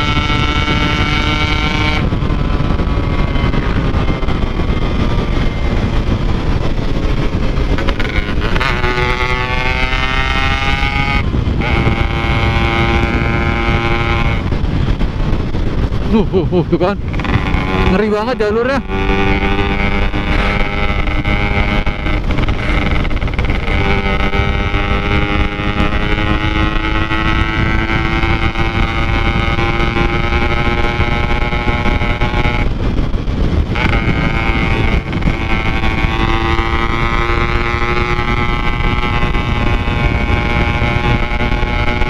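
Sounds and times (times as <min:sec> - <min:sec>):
motorcycle engine under throttle: 0:00.0 - 0:42.0
wind on microphone: 0:00.0 - 0:42.0.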